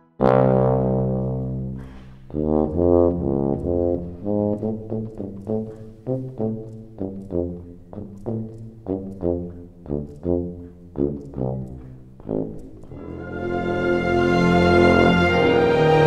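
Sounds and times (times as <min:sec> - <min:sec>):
symphony orchestra with low brass: 0:00.0 - 0:16.0.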